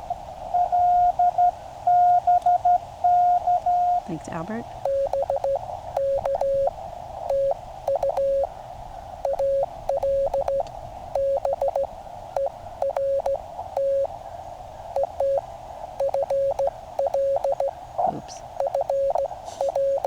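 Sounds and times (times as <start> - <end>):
receiver hiss: 0.0 - 20.0
morse code tone: 0.6 - 6.7, 7.3 - 8.5, 9.2 - 14.1, 15.0 - 20.0.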